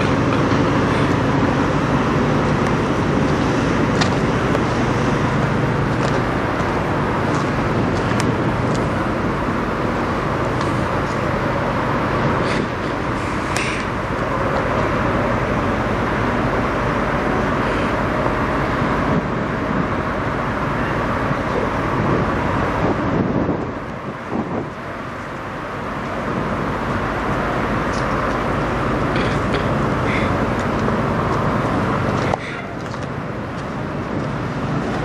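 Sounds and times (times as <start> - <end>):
diesel truck engine idling: 0.0 - 35.0.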